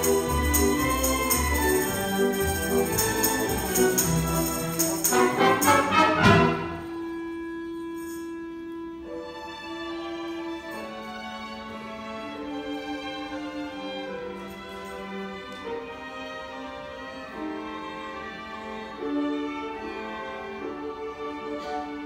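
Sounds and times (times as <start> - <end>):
orchestra playing: 0.0 - 22.0.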